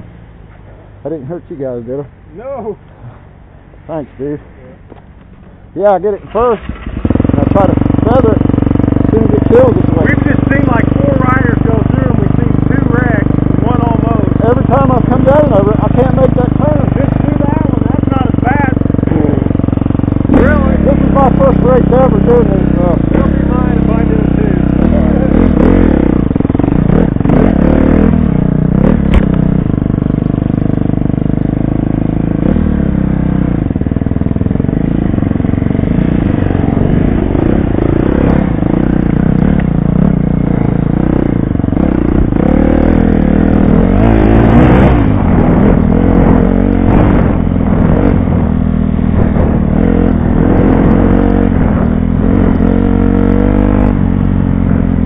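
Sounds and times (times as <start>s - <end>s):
dirt bike engine revving: 5.8s - 55.0s.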